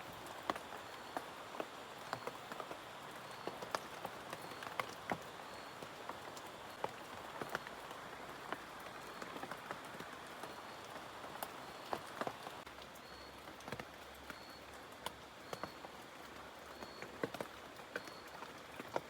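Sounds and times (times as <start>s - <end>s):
rain drops tapping on leaf roof: 0.0s - 19.0s.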